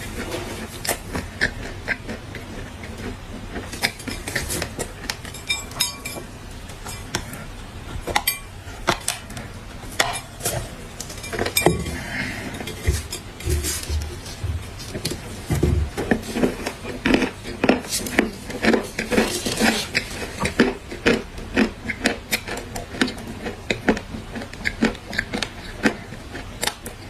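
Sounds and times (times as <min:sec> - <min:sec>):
dry clay being chewed: 0:00.0 - 0:27.0.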